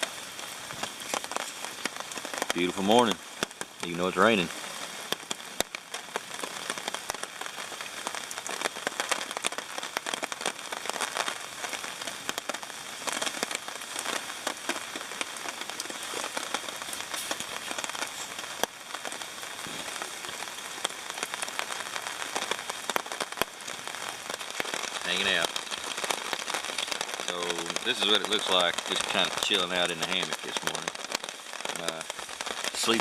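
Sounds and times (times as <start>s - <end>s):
rain on a tarp: 0.0s - 33.0s.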